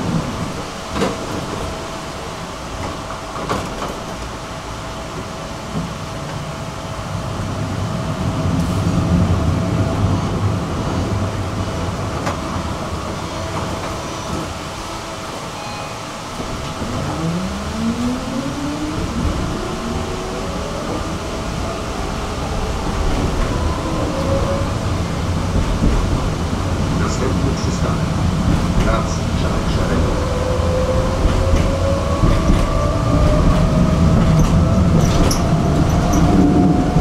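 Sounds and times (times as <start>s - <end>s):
tram wheels rumbling on rail: 0.0s - 37.0s.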